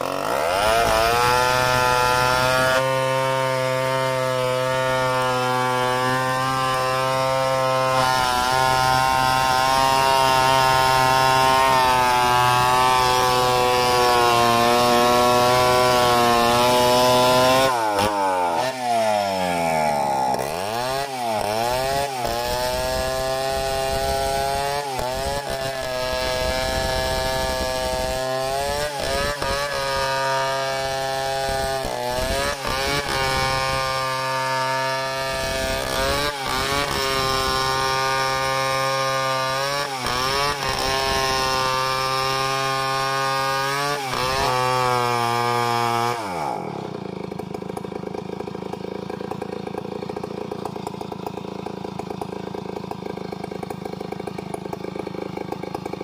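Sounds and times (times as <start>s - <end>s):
chainsaw cutting through log: 0.0s - 56.0s.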